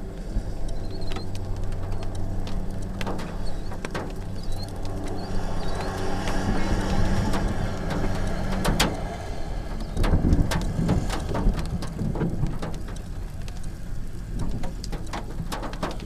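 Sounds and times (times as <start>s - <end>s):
hailstones striking hard surfaces: 0.0s - 16.0s
low engine hum: 0.0s - 16.0s.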